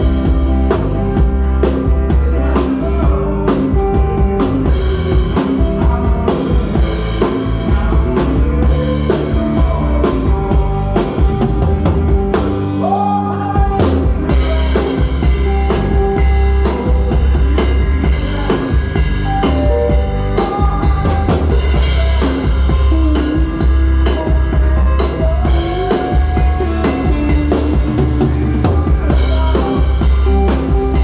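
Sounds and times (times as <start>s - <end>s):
drum kit with cymbals: 0.0s - 31.0s
heavy bass guitar: 0.0s - 31.0s
electric lead guitar bending notes: 3.4s - 31.0s.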